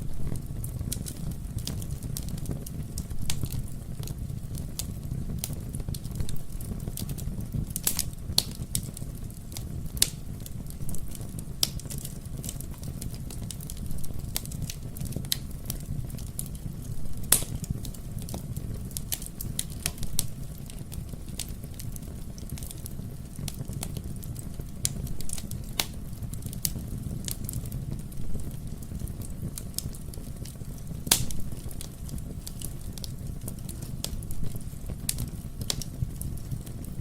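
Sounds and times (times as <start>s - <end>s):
low rumble of flames: 0.0s - 37.0s
wood fire crackling and popping: 0.0s - 37.0s.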